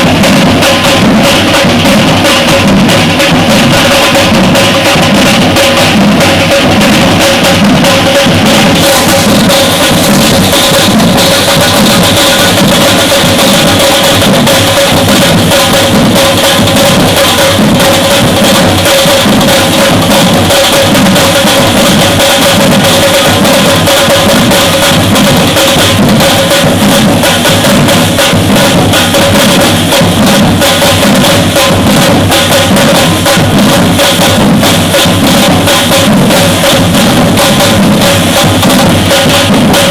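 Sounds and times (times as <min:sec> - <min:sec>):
drum ensemble playing: 0:00.0 - 0:39.9.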